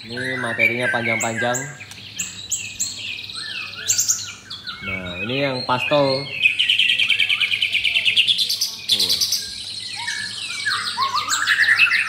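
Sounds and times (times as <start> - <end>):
songbird singing high notes: 0.0 - 12.0.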